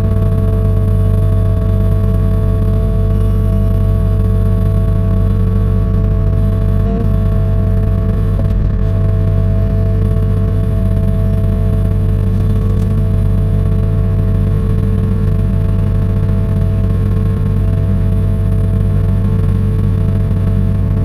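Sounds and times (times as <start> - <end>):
diesel engine running: 0.0 - 21.0
steady whine: 0.0 - 21.0.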